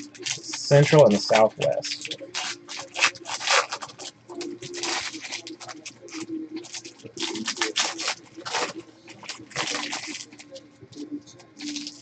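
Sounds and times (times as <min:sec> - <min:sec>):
wrapper crinkling: 0:00.0 - 0:10.6, 0:11.6 - 0:12.0.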